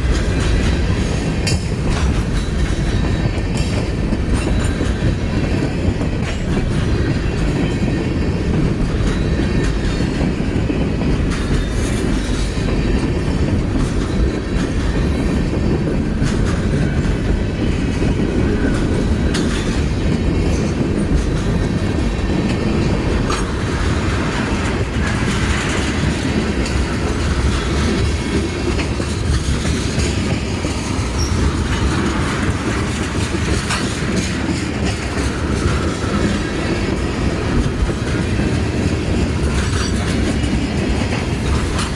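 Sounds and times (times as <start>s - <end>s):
freight train cars rolling: 0.0s - 41.9s
wheels clacking over rail joints: 0.0s - 41.9s.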